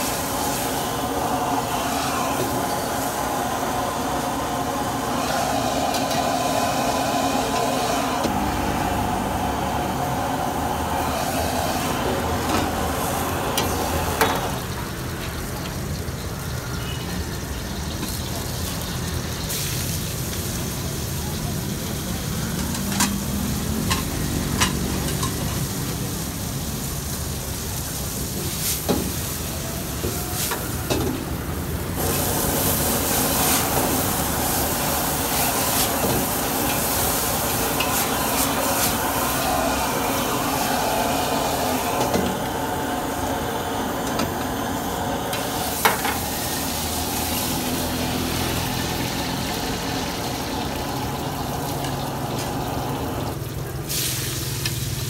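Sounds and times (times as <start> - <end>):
gas burner rushing: 0.0 - 16.5, 17.7 - 55.0
greens sizzling in a wok: 0.0 - 55.0
steam hissing: 0.0 - 55.0.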